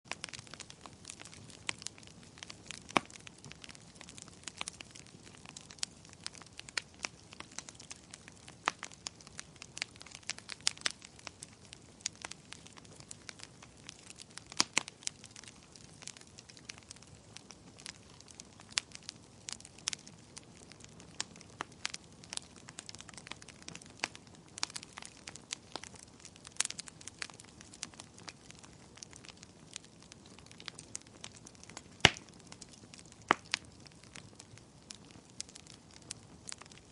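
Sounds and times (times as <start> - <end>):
wood fire crackling: 0.1 - 36.9.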